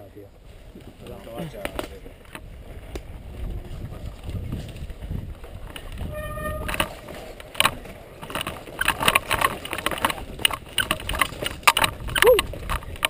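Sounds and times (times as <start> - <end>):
bike rattling over rocky ground: 0.5 - 13.0.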